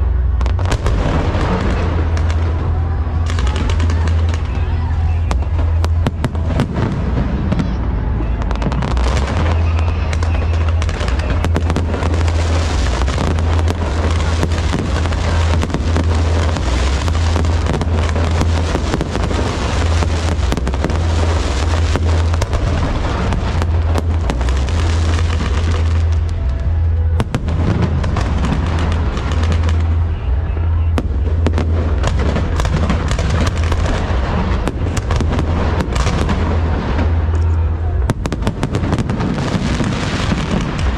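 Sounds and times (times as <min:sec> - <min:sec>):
fireworks bursting: 0:00.0 - 0:40.9
fireworks crackling: 0:00.0 - 0:40.9
low firework booms: 0:00.2 - 0:40.9.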